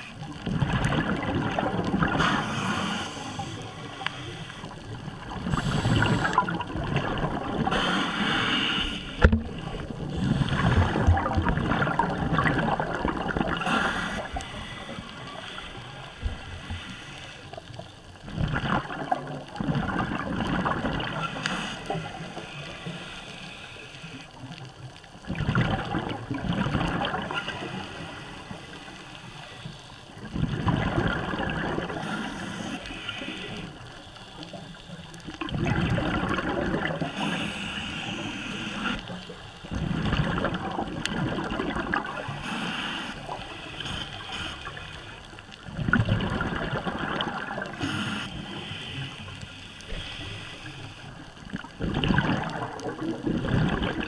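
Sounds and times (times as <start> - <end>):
underwater bubbling exhaust: 0.0 - 54.0.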